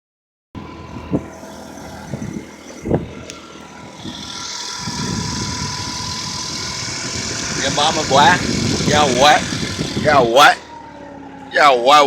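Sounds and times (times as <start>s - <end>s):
motor scooter running: 0.6s - 12.0s.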